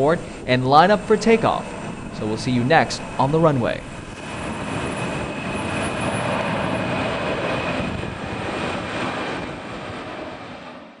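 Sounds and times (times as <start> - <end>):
faint high engine whine: 0.0 - 11.0
jet engines rushing: 0.0 - 11.0.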